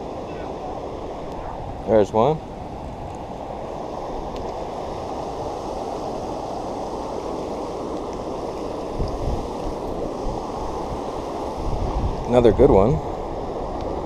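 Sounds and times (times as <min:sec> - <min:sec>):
waterfall rushing: 0:00.0 - 0:12.4.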